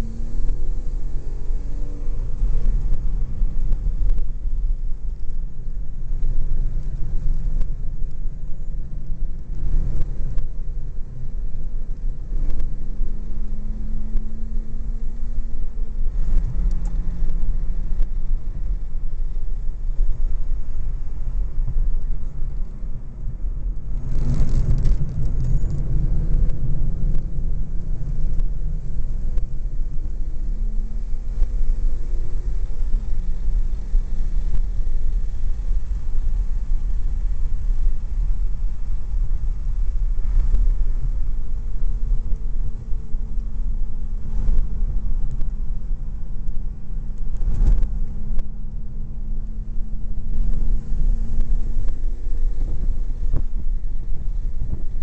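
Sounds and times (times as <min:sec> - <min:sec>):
faint car engine: 0:00.0 - 0:55.0
heavy wind rumble: 0:00.0 - 0:55.0.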